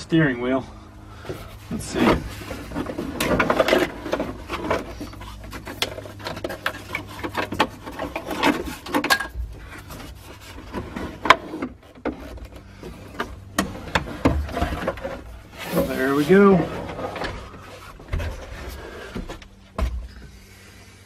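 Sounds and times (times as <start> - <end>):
plastic scraping and creaking: 1.2 - 20.1.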